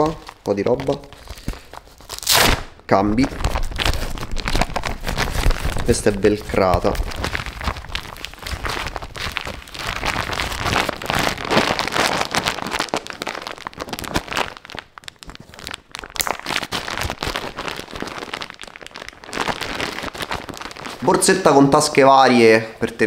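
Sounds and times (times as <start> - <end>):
dry bag crinkling: 0.0 - 22.4.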